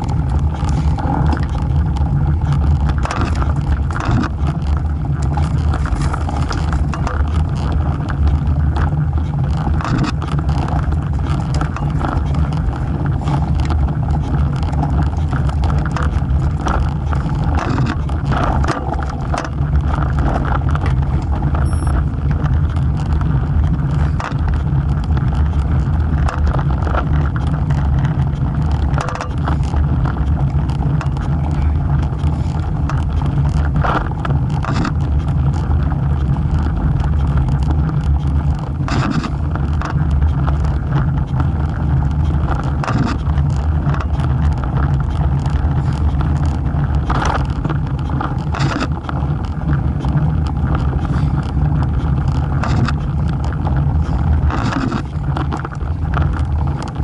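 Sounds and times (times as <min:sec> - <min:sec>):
bike rattling over bumps: 0:00.0 - 0:57.0
wind and road rumble: 0:00.0 - 0:57.0.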